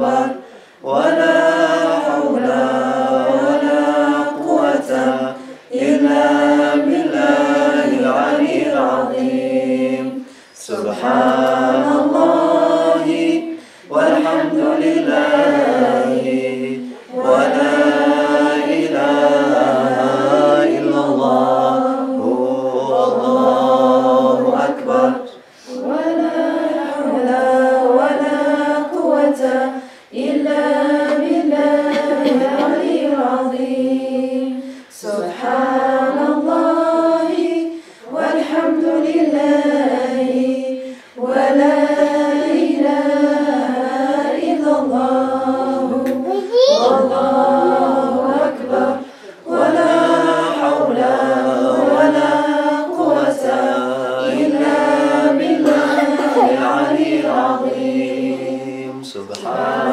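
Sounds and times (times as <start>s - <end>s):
group chanting in unison: 0.0s - 59.9s.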